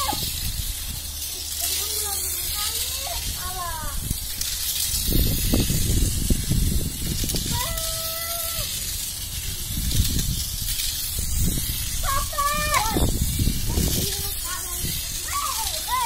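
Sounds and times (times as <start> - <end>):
toy car clattering on track: 0.0 - 16.0
toy car motor hissing: 0.0 - 16.0.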